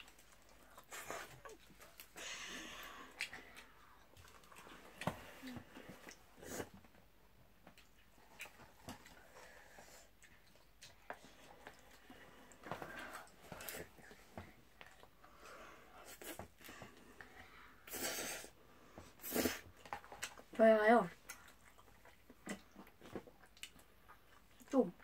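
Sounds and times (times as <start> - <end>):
noodles being chewed: 0.0 - 7.0, 7.6 - 18.5, 19.2 - 24.8.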